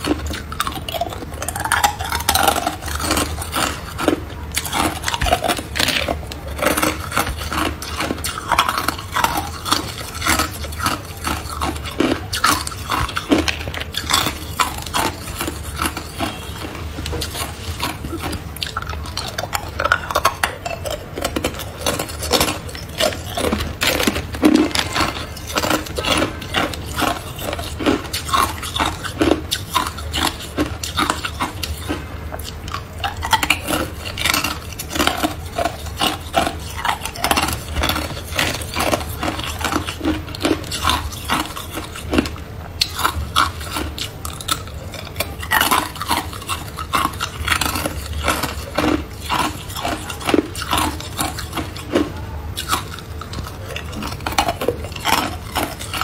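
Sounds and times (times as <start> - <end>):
faint low hum: 0.0 - 56.0
ice cubes crunched between teeth: 0.0 - 56.0.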